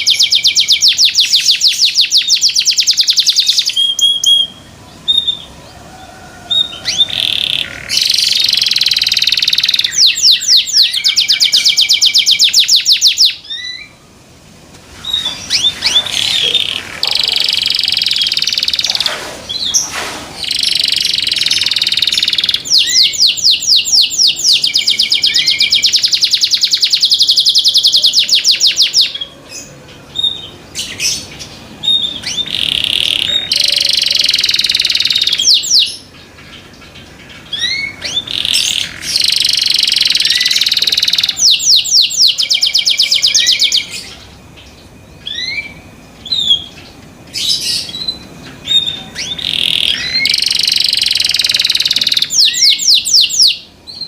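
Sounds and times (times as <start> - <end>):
canary singing trills: 0.0 - 14.2, 14.9 - 54.0.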